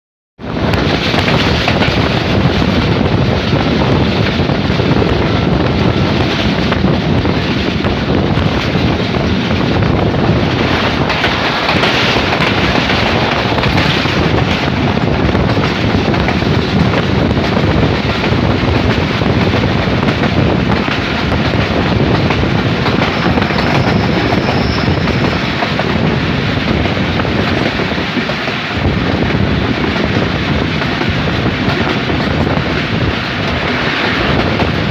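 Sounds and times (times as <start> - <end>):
train wheels clattering on rails: 0.4 - 34.9
wind buffeting microphone: 0.4 - 34.9.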